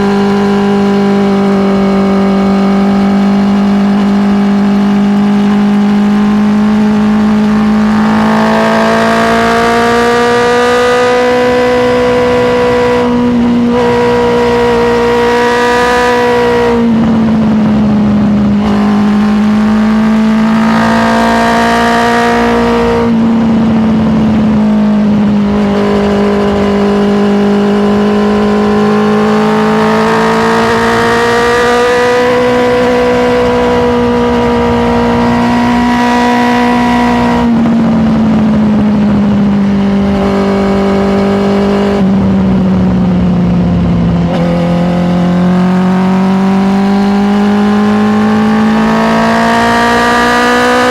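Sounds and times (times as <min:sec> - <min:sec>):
motorcycle engine running under load: 0:00.0 - 0:50.9.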